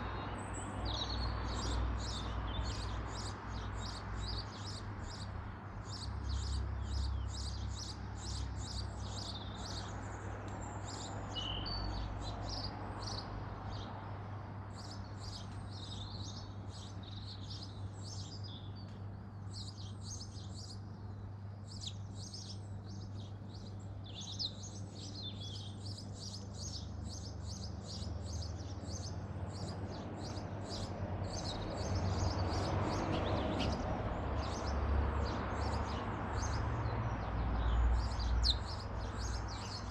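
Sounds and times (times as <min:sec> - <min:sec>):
birds chirping and twittering: 0:00.0 - 0:14.0, 0:14.7 - 0:39.9.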